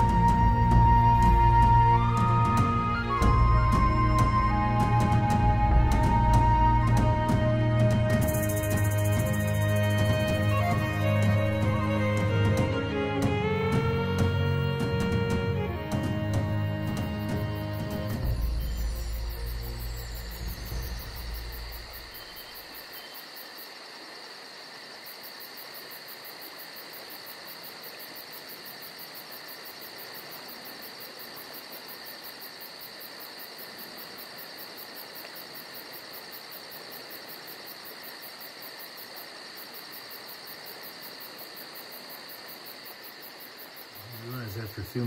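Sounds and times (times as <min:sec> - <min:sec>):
insect chorus trilling: 0:02.9 - 0:12.6, 0:16.3 - 0:45.0.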